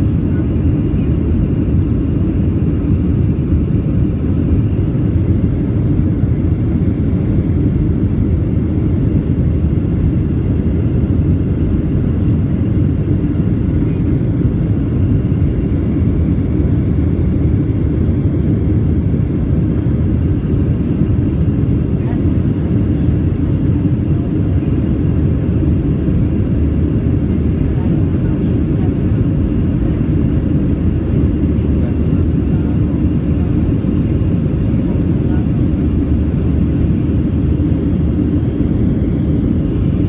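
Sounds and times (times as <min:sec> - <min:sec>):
airplane cabin engine rumble: 0:00.0 - 0:40.0.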